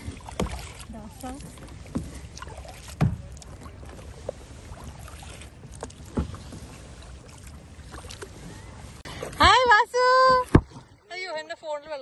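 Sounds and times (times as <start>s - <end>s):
paddle strokes in water: 0.0s - 11.8s.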